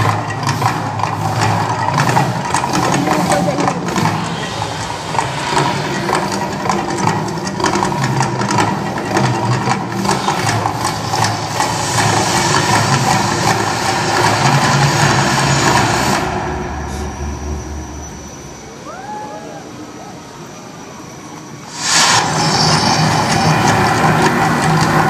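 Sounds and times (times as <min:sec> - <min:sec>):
hissing rush: 0:00.0 - 0:25.0.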